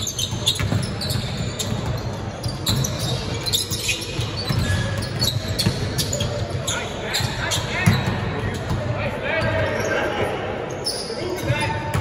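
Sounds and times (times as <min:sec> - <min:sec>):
basketball bouncing on court: 0:00.0 - 0:09.6, 0:11.4 - 0:12.0.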